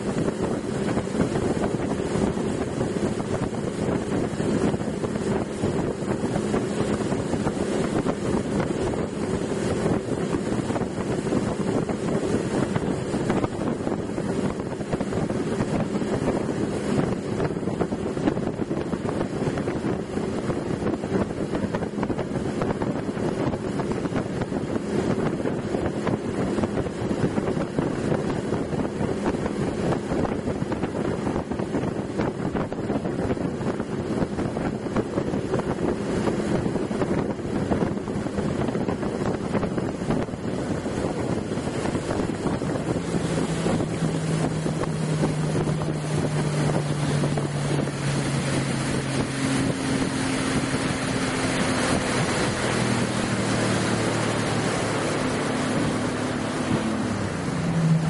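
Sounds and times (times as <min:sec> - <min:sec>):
motorboat engine running: 0:00.0 - 0:58.0
wind buffeting microphone: 0:00.0 - 0:58.0.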